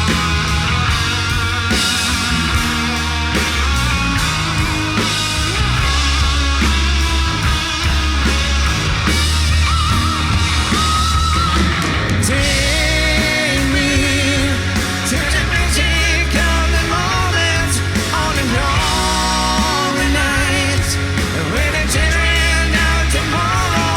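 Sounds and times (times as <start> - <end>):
electric guitar lead with bent notes: 0.0 - 23.9
heavy bass and drums: 0.0 - 23.9.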